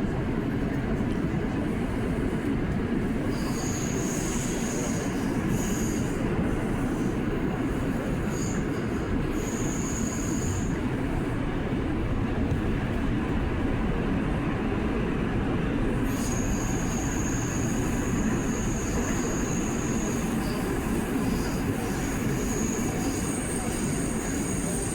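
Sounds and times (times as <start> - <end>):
subway wheels rumbling on rail: 0.0 - 24.9.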